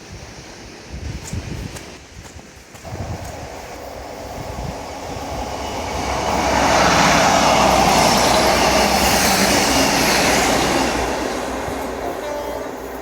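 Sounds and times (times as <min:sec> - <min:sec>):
train wheels rushing on rails: 0:01.1 - 0:13.0.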